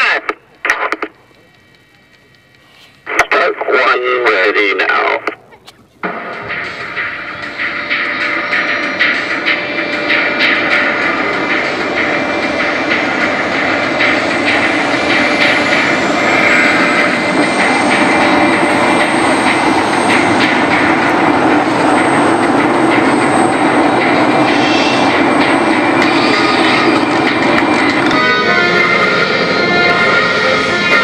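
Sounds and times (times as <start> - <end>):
jet engines whining: 0.0 - 31.0.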